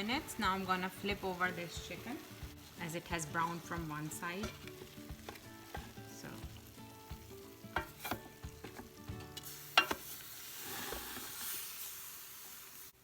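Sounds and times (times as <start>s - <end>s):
chicken sizzling in air fryer: 0.0s - 13.0s.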